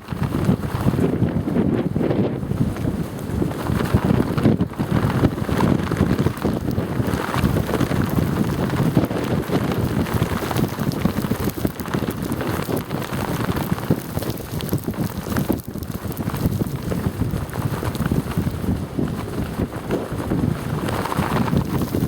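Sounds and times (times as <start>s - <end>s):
fabric flapping rapidly: 0.0s - 22.0s
wind buffeting microphone: 0.0s - 22.0s.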